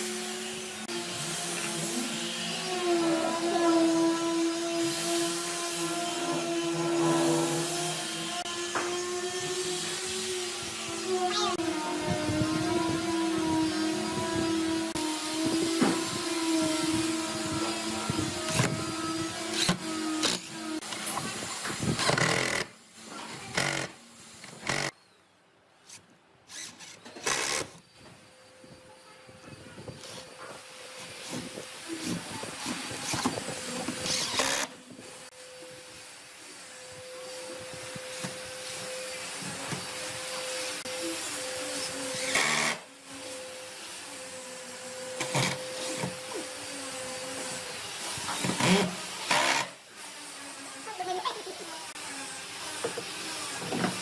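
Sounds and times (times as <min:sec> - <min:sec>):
power tool cutting wood: 0:00.0 - 0:25.0, 0:25.9 - 0:27.8, 0:29.9 - 0:54.0
workshop machine hissing: 0:00.0 - 0:25.0, 0:25.9 - 0:54.0.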